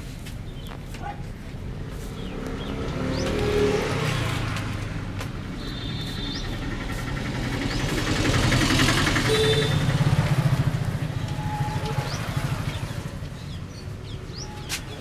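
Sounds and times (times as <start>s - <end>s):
passing vehicle engine: 1.6s - 14.8s.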